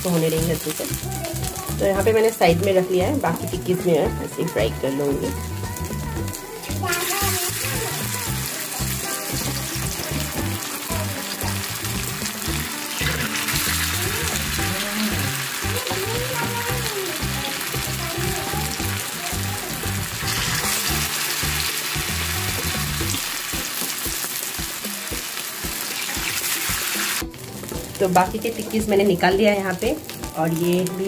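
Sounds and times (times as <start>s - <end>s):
patties sizzling in oil: 0.0s - 31.0s.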